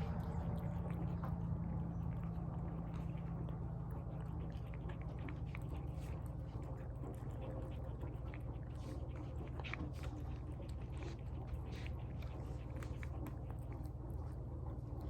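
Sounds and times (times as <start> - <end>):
pet chewing wet food: 0.0 - 15.0
steady low hum: 0.0 - 15.0.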